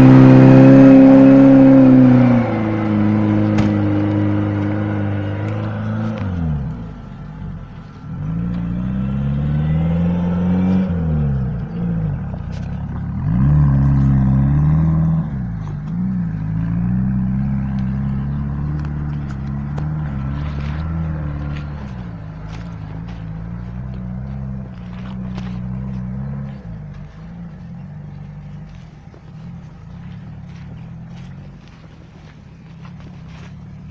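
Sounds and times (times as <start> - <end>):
truck engine revving in mud: 0.0 - 33.9.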